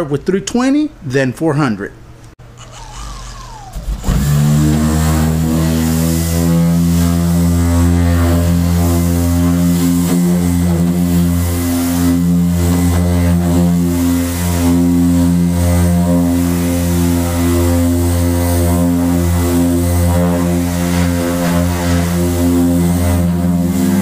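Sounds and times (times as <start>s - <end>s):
electric sander humming: 2.4s - 24.0s.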